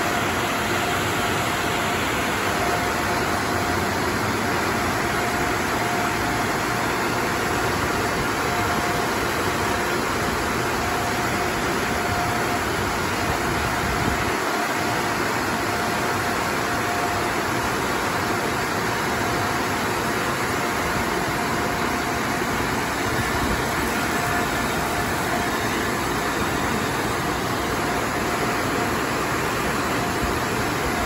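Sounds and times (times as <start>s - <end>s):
car wash dryer blowers: 0.0s - 31.0s.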